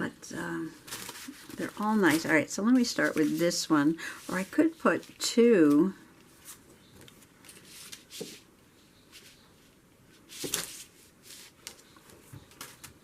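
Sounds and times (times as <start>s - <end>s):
plastic sheets and paper rustling: 0.8s - 8.4s, 10.1s - 13.0s.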